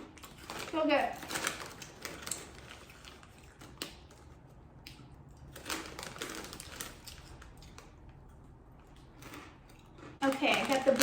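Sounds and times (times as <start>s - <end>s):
corn chips crunching while chewed: 0.0s - 11.0s.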